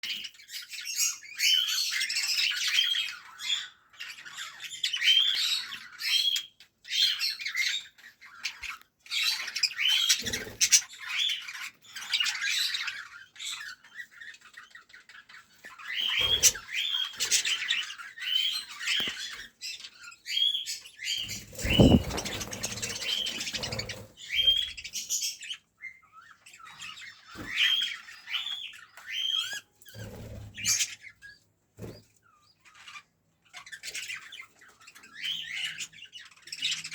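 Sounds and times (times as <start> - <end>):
parrots and finches squawking: 0.1 - 31.3.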